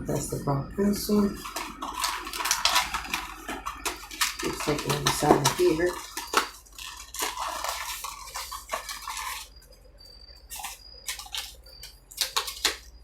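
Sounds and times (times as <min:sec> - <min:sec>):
packaging rustling: 0:00.2 - 0:13.0
pencils clicking: 0:01.0 - 0:09.8, 0:10.5 - 0:13.0.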